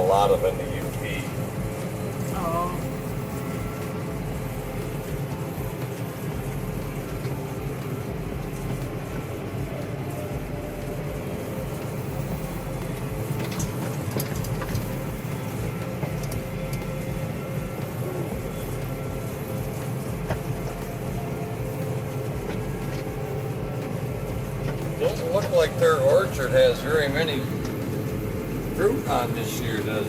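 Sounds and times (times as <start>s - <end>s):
tractor engine droning: 0.0s - 30.0s
sharp clicks and rattles: 0.3s - 30.0s.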